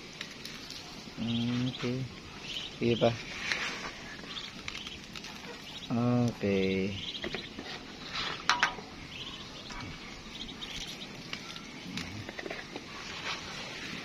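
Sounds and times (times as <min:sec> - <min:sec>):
ducklings peeping: 0:00.4 - 0:14.0.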